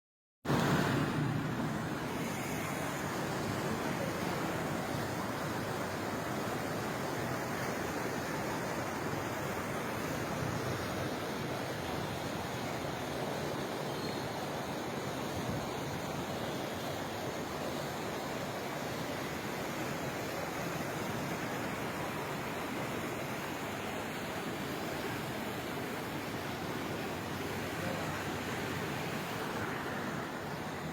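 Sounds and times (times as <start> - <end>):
floodwater rushing: 0.5 - 30.9.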